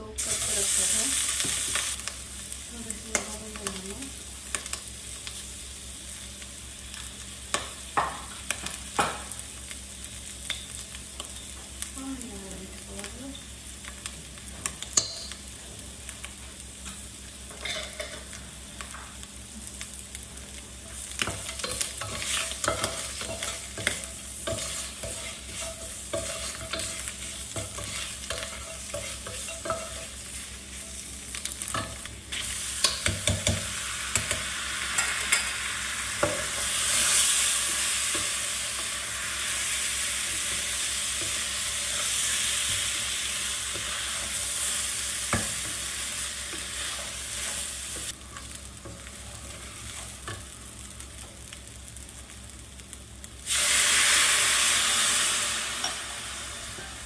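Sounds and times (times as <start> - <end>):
mushrooms sizzling in hot fat: 0.0 - 57.0.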